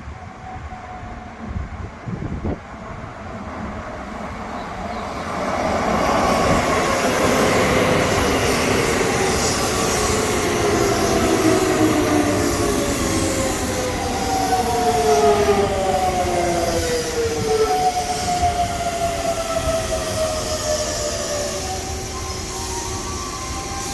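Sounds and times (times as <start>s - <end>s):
train wheel noise: 1.4s - 23.9s
train braking whine: 4.3s - 23.9s.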